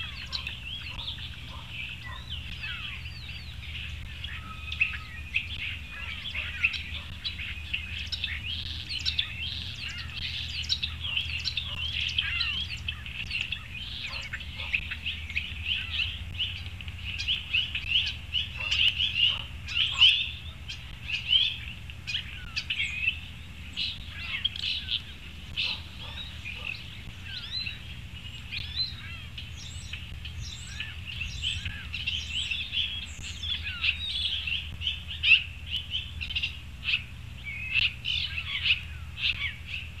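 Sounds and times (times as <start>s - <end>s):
songbirds chirping: 0.0s - 40.0s
steady low hum: 0.0s - 40.0s.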